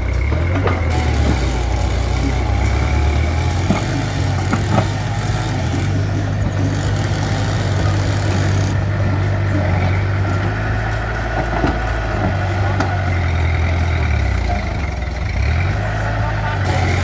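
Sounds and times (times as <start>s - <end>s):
bulldozer diesel engine drone: 0.0s - 17.0s.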